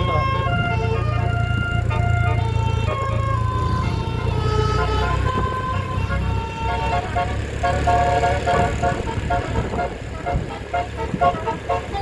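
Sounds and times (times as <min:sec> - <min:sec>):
bus engine rumble: 0:00.0 - 0:12.0
musical air horns playing a tune: 0:00.0 - 0:12.0.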